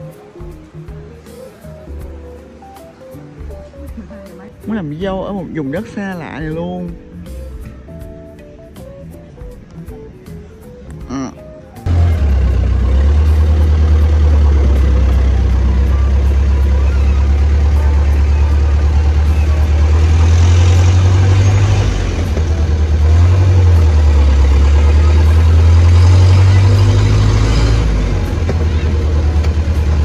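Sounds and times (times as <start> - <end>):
vehicle engine and road rumble: 0.0 - 30.0.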